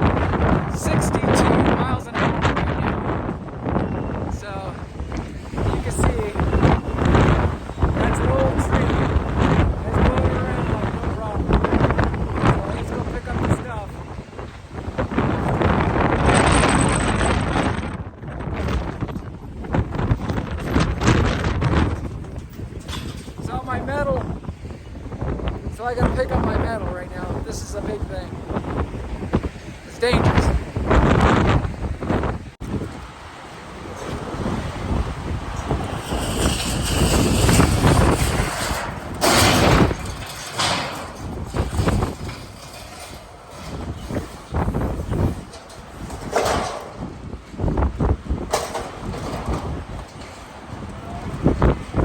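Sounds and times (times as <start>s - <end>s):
strong wind gusting: 0.0s - 52.0s.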